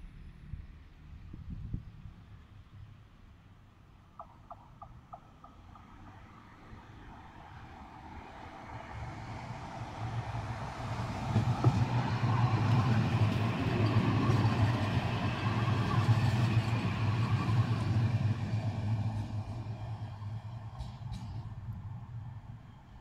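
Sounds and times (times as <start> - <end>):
tram low hum: 0.0 - 23.0.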